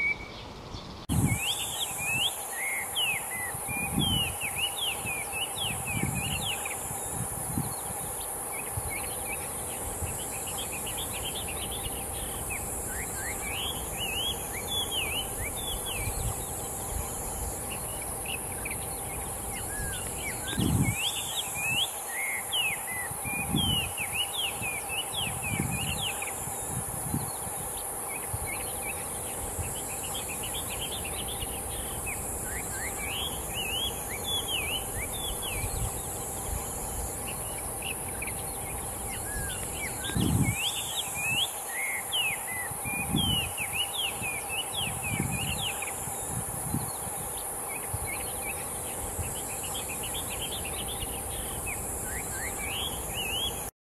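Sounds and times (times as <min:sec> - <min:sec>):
bird singing whistled notes: 0:00.0 - 0:53.7
insects hissing: 0:00.0 - 0:53.7.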